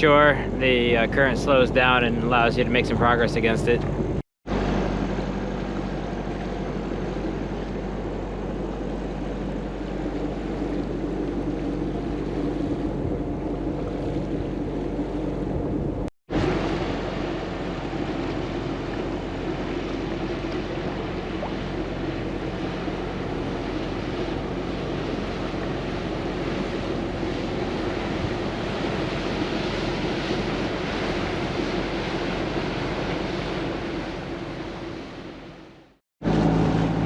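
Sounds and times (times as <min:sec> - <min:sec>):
boat engine running: 0:00.0 - 0:37.0
wind: 0:00.0 - 0:37.0
rushing water: 0:04.5 - 0:37.0.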